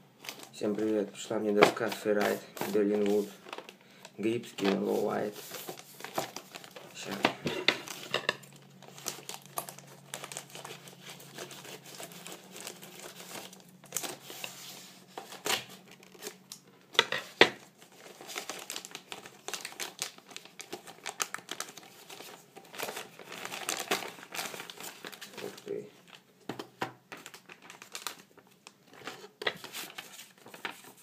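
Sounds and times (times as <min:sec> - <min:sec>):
paper rustling and crinkling: 0:00.2 - 0:31.0.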